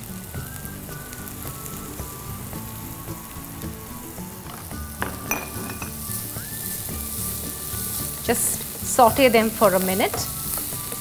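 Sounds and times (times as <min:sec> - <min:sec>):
onions sizzling in butter: 0:00.0 - 0:11.0
soft background music: 0:00.0 - 0:11.0.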